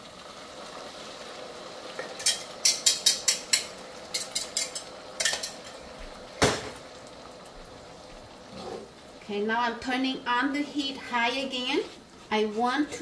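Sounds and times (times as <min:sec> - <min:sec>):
sauce sizzling in a wok: 0:00.0 - 0:13.0.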